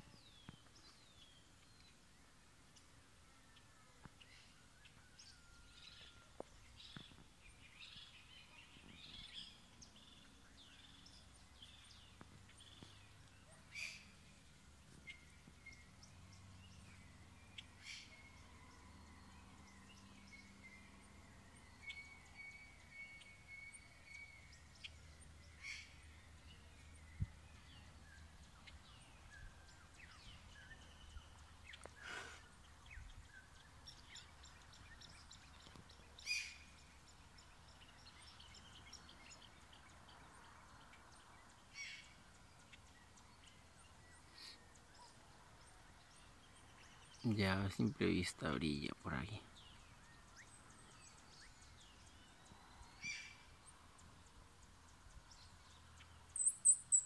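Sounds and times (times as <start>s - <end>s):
birds chirping: 0.0s - 57.0s
sharp bird calls: 3.5s - 40.2s, 41.5s - 57.0s.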